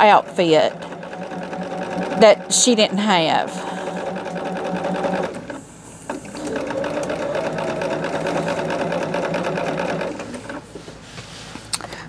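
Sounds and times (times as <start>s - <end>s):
sewing machine stitching: 0.0s - 10.7s.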